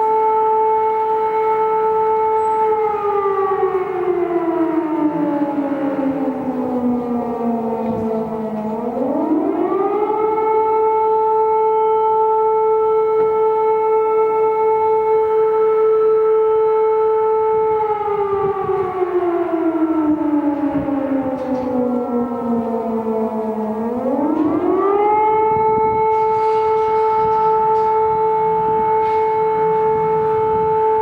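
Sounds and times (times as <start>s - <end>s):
siren wailing: 0.0s - 31.0s.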